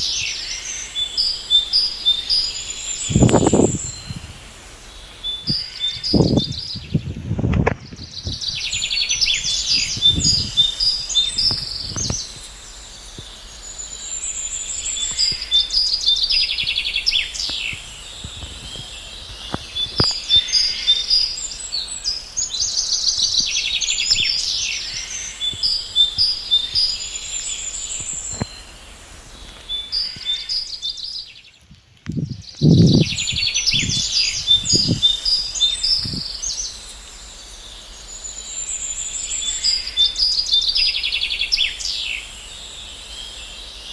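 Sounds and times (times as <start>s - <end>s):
birds chirping and singing: 0.0s - 43.9s.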